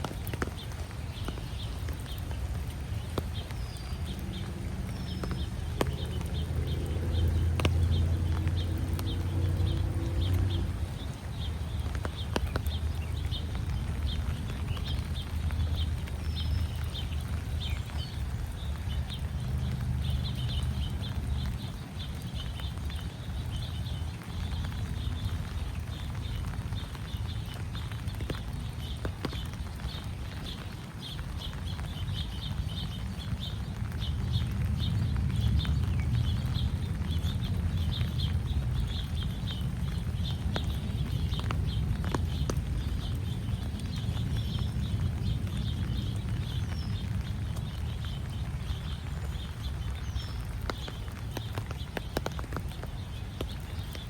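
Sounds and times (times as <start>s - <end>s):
footsteps on wet path: 0.0s - 54.0s.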